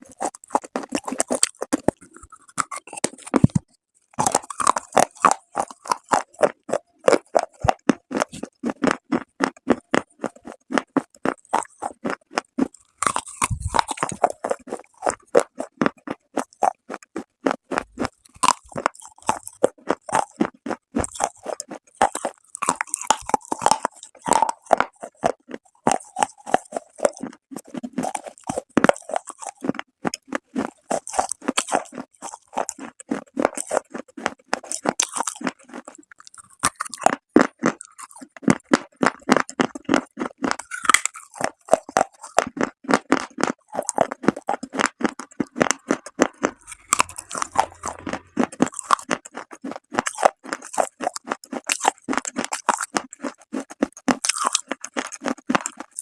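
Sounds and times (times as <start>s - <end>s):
chewing with crackling crunches: 0.0s - 56.0s.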